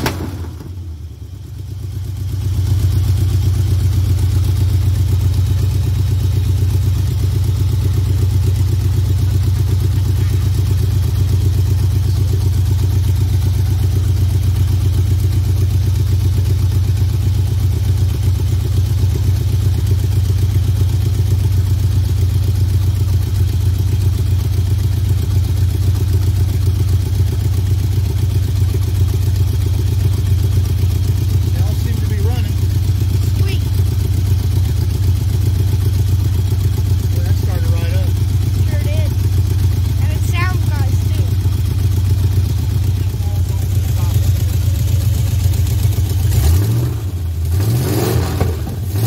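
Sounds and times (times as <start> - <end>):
engine running steadily: 0.0 - 49.0.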